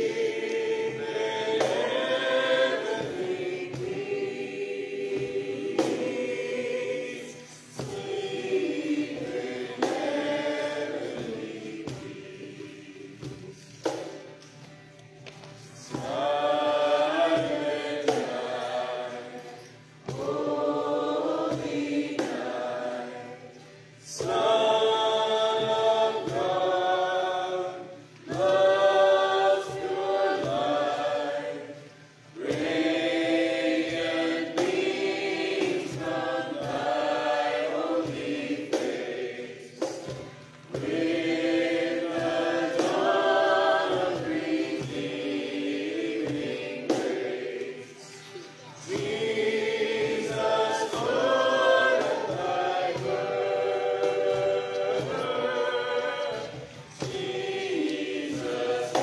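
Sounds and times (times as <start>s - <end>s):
group singing a worship song: 0.0s - 59.0s
musical accompaniment: 0.0s - 59.0s.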